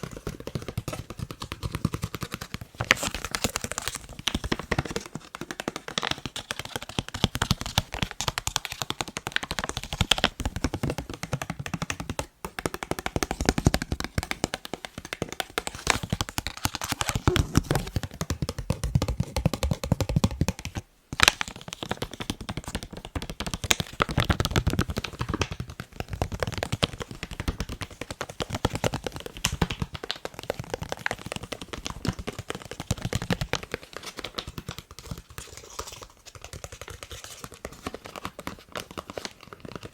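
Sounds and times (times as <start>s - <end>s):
fingers tapping on a face mask: 0.0s - 39.9s.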